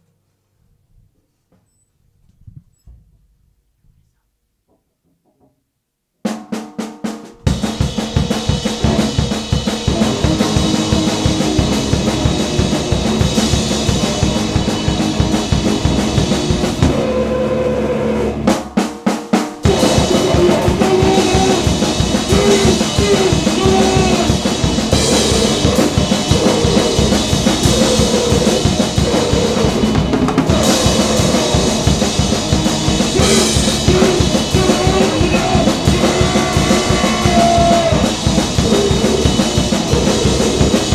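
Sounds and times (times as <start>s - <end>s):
drum kit hits: 6.4s - 17.1s, 18.5s - 40.9s
band playing loud distorted noise: 7.4s - 40.9s.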